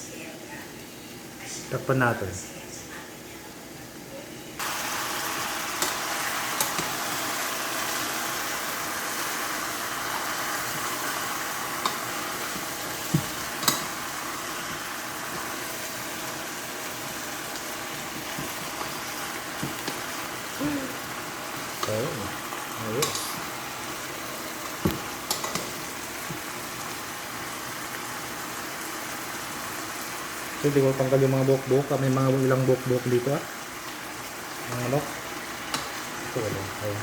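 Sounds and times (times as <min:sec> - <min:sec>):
food sizzling in a hot pot: 0:00.0 - 0:37.0.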